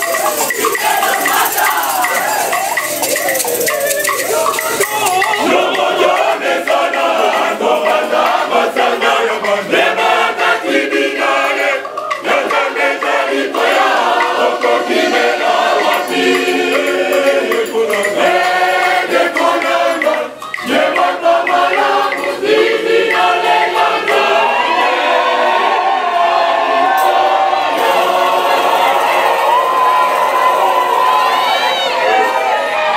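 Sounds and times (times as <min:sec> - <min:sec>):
choir singing: 0:00.0 - 0:32.9.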